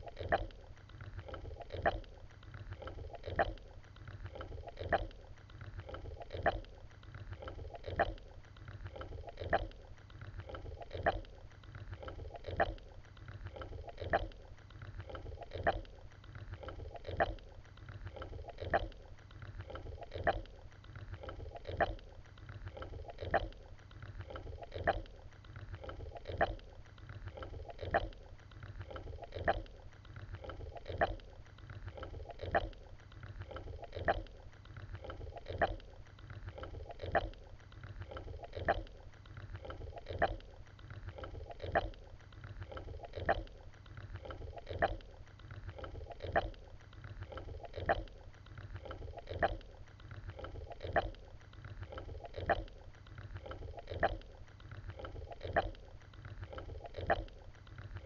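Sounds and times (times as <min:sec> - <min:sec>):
low steady rumble: 0:00.0 - 0:58.0
rhythmic strokes through water: 0:00.0 - 0:58.0.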